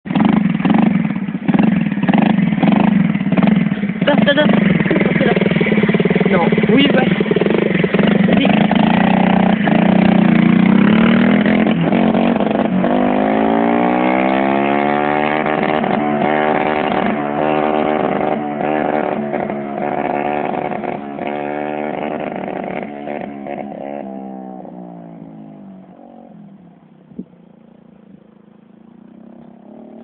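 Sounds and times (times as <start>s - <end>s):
quad bike engine accelerating: 0.1s - 30.0s.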